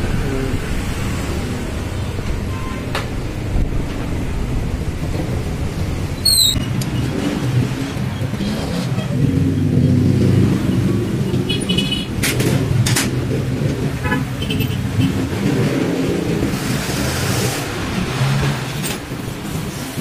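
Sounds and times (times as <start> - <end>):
motor vehicles rumbling: 0.0 - 20.0.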